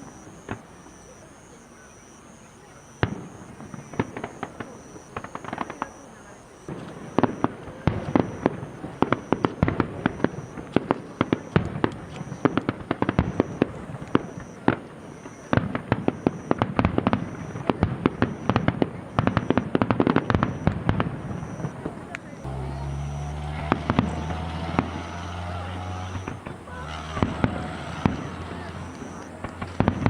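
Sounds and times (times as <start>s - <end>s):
fireworks bangs and cracks: 0.0s - 1.2s, 2.8s - 30.0s.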